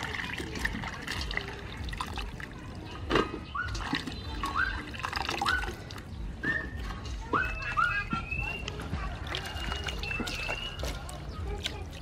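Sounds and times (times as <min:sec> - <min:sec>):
water splashing in a steel bowl: 0:00.0 - 0:07.6, 0:08.4 - 0:12.0.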